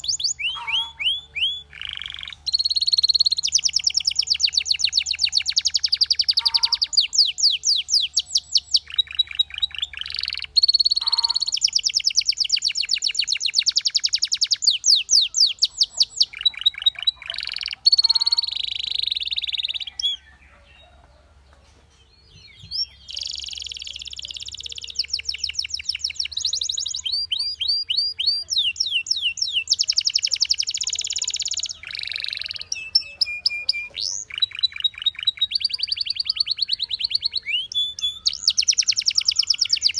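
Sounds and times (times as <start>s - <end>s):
canary singing trills: 0.0s - 21.3s, 22.0s - 39.9s.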